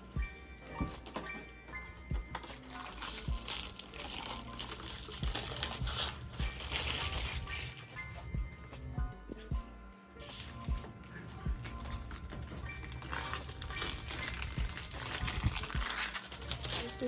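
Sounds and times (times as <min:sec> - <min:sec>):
background music: 0:00.0 - 0:17.0
packaging crinkling and rustling: 0:00.8 - 0:08.1, 0:10.2 - 0:17.0.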